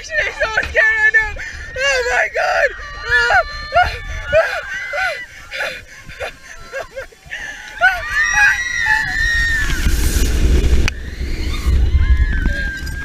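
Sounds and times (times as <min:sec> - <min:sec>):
wind rumble on microphone: 0:00.0 - 0:13.0
riders screaming: 0:01.5 - 0:10.0, 0:10.9 - 0:13.0.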